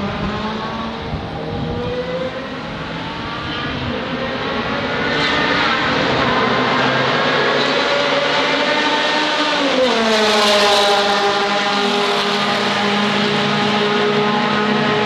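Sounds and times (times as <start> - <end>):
racing car engines revving: 0.0 - 15.0
racing car passing by: 0.0 - 15.0.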